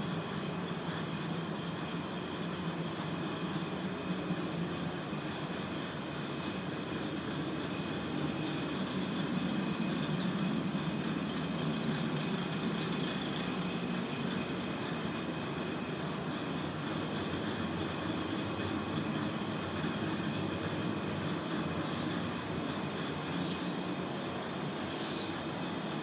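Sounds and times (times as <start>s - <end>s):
diesel railcar engine idling: 0.0s - 26.0s.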